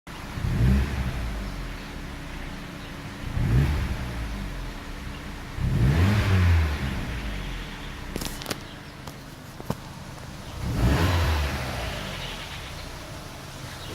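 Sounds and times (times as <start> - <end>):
car engine revving: 0.3 - 13.9.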